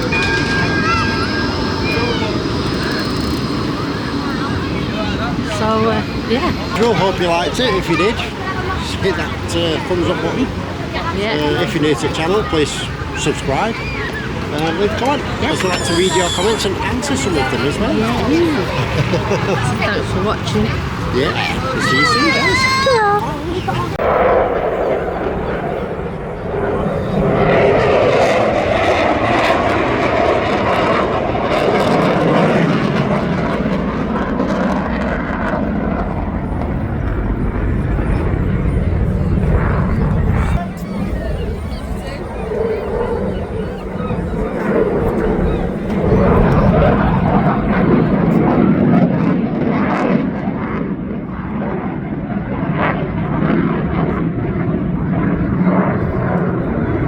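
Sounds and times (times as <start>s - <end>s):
aircraft engine rushing past: 0.0s - 57.0s.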